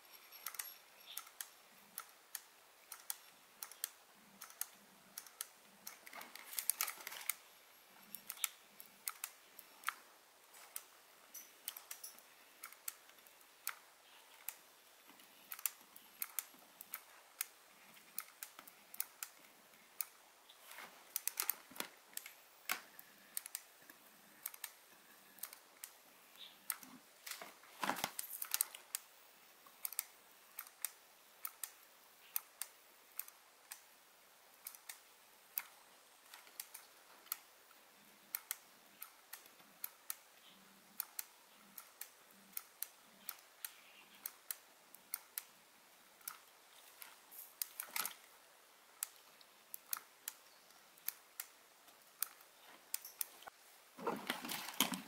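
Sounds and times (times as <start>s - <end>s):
small sharp soldering clicks: 0.4s - 27.4s, 29.7s - 53.6s.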